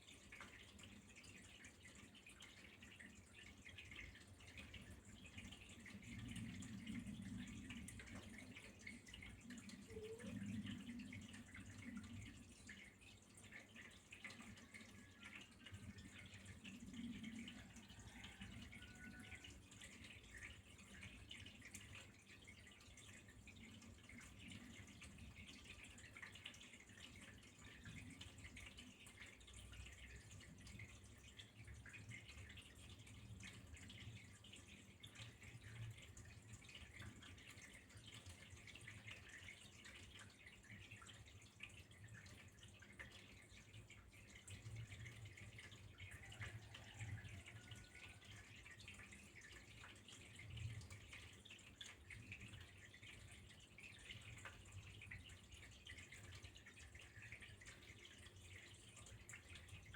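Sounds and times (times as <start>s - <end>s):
faint trickling water: 0.0s - 59.9s
small drips pattering: 0.0s - 59.9s.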